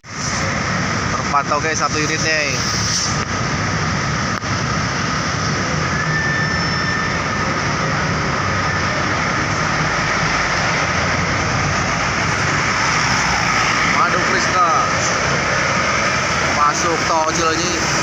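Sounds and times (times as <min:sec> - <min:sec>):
heavy road traffic: 0:00.0 - 0:18.0.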